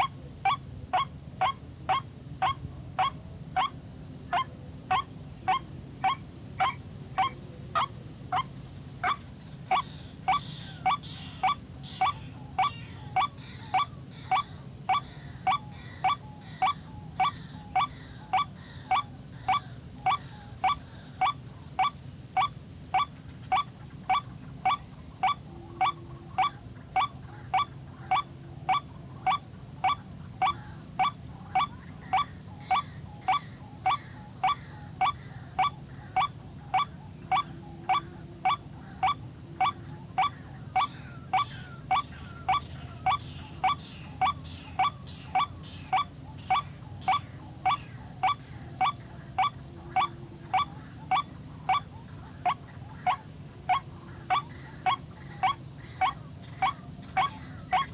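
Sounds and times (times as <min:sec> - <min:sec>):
waterhen call: 0:00.0 - 0:57.9.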